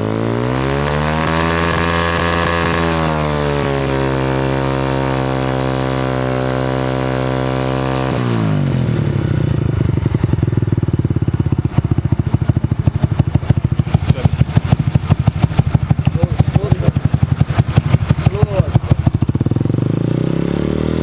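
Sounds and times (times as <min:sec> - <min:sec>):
motorcycle engine revving and idling: 0:00.0 - 0:21.0.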